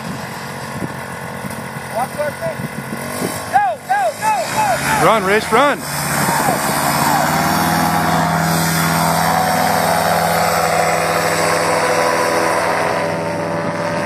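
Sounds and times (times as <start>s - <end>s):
paramotor engine at high throttle: 0.0s - 14.0s.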